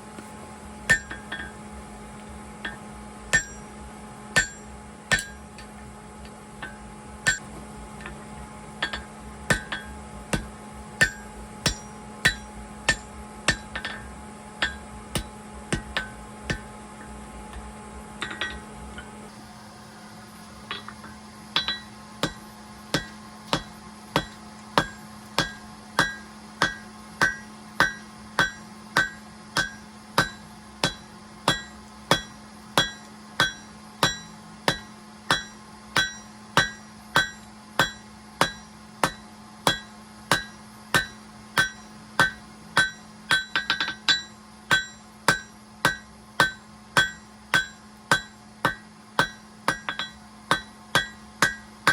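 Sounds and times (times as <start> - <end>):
steady low hum: 0.0 - 51.9
hammer blows ringing on anvil: 0.9 - 1.6, 2.6 - 3.8, 4.4 - 5.8, 6.6 - 8.2, 8.8 - 16.7, 21.6 - 51.9.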